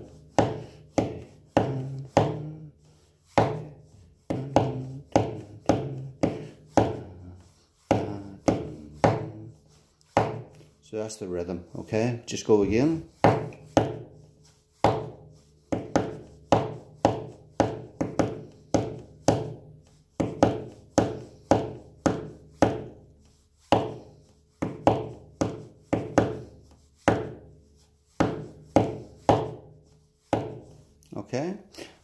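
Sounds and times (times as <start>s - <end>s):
hand tapping on hard surface: 0.0s - 2.7s, 3.3s - 10.7s, 12.7s - 14.2s, 14.8s - 23.0s, 23.6s - 27.6s, 28.2s - 30.9s.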